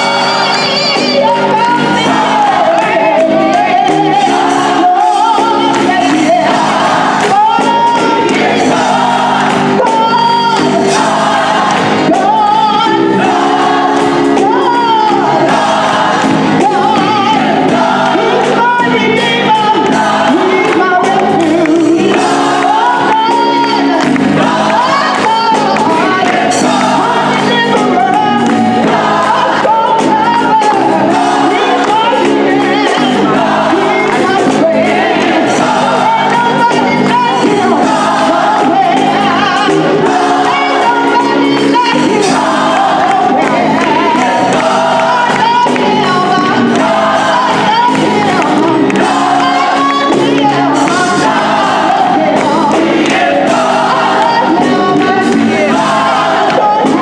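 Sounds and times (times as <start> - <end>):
choir clapping along: 0.0 - 57.0
gospel choir singing: 0.0 - 57.0
lead soloist singing: 0.0 - 57.0.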